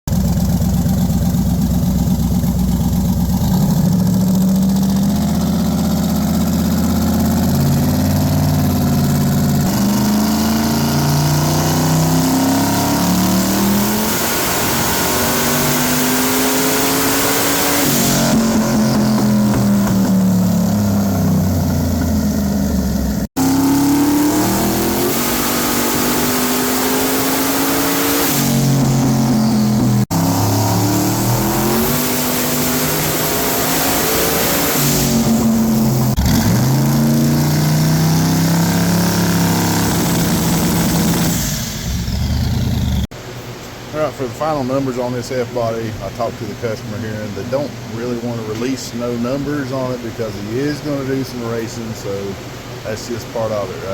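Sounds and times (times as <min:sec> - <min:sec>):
car engine revving under load: 0:00.1 - 0:43.3.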